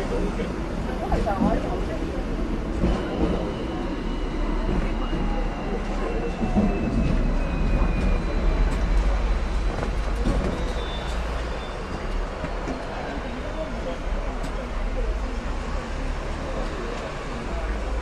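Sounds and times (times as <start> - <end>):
tram rumble on rails: 0.0 - 18.0.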